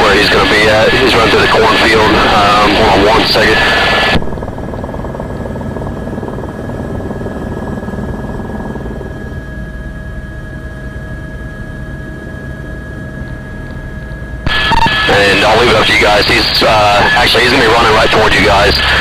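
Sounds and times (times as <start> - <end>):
helicopter rotor and engine drone: 0.0 - 19.0.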